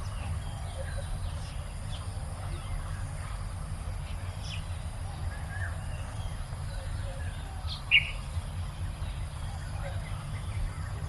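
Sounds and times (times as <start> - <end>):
birds chirping: 0.0 - 11.0
steady low rumble: 0.0 - 11.0.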